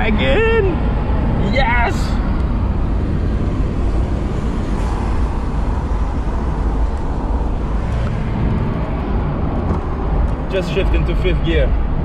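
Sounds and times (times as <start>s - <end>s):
in-cabin engine and road rumble: 0.0s - 12.0s.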